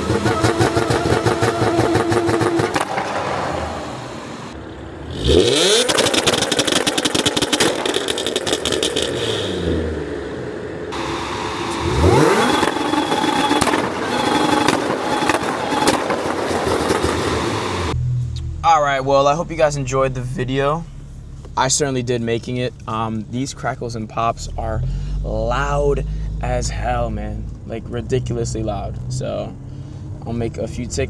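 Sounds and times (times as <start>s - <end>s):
car engine revving: 0.0s - 31.0s
exhaust crackling and popping: 0.0s - 31.0s.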